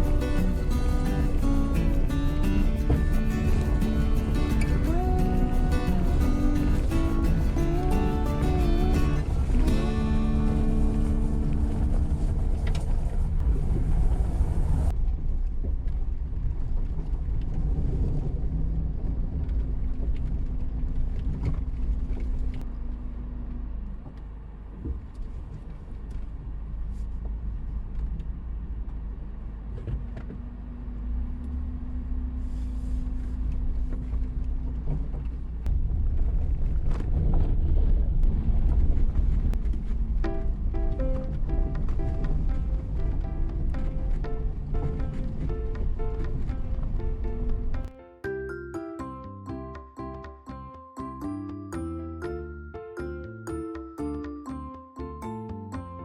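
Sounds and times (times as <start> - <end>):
engine drone: 0.0 - 47.9
low road rumble: 0.0 - 47.9.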